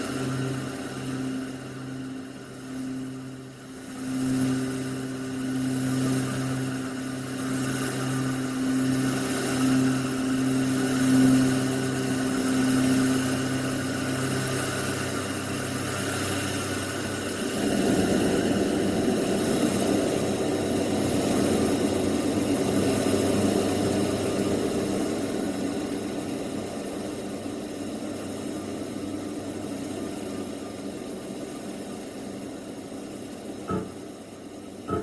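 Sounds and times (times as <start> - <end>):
dense rumbling noise drone: 0.0 - 30.4, 33.5 - 35.0.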